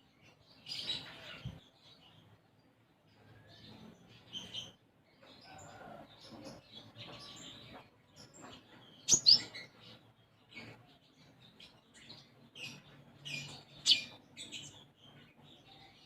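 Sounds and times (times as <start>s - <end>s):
bird chirps and trills: 3.1s - 16.0s.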